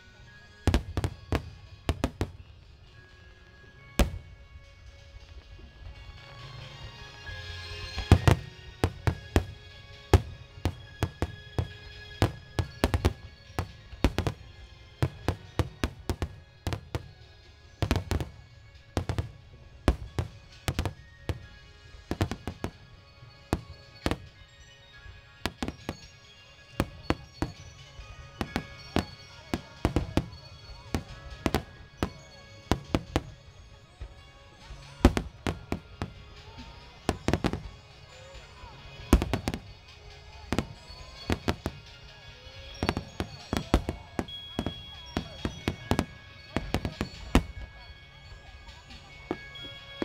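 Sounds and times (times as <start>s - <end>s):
music playing: 0.0s - 50.0s
fireworks bursting: 0.1s - 4.5s, 5.2s - 50.0s.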